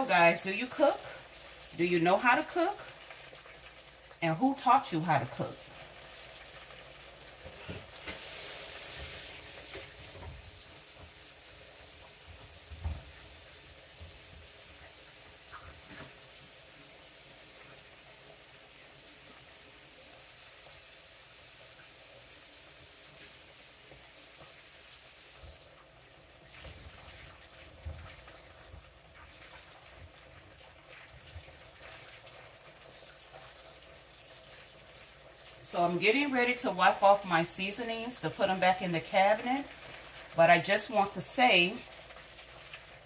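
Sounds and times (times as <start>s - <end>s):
chicken wings sizzling in oil: 0.0s - 43.0s.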